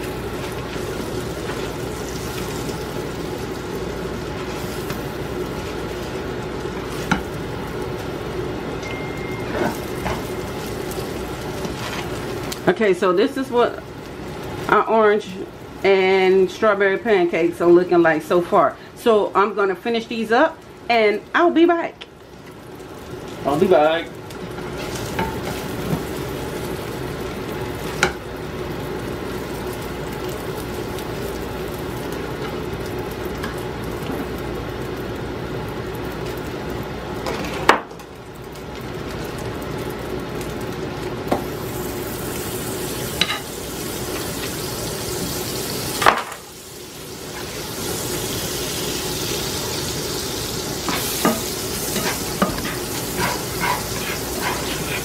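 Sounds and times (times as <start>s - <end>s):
pancakes sizzling in a frying pan: 0.0s - 8.7s, 19.4s - 55.0s.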